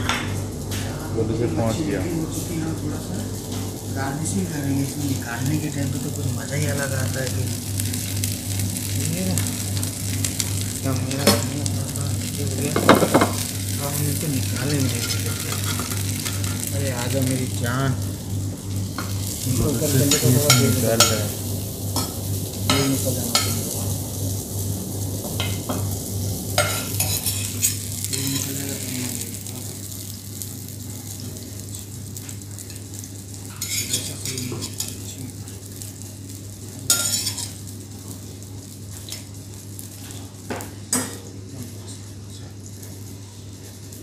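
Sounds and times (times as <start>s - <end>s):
fish sizzling in oil: 1.9s - 44.0s.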